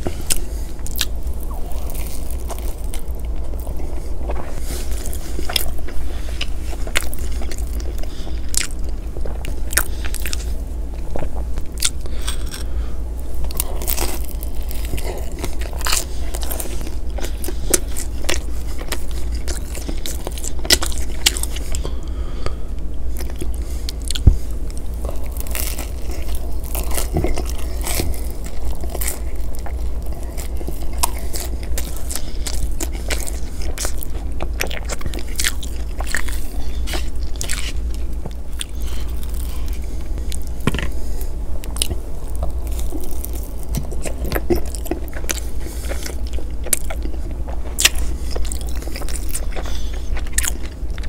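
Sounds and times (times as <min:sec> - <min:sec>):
wet chewing: 0:00.0 - 0:22.5, 0:23.1 - 0:51.0
crunchy bites into crust: 0:00.0 - 0:51.0
steady low hum: 0:00.0 - 0:51.0.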